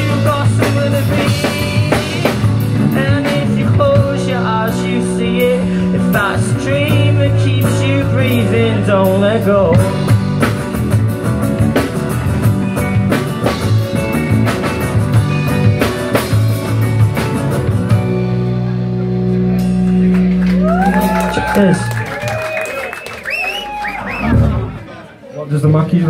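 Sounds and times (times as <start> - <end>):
bass guitar: 0.0 - 25.0
live rock band playing: 0.0 - 25.0.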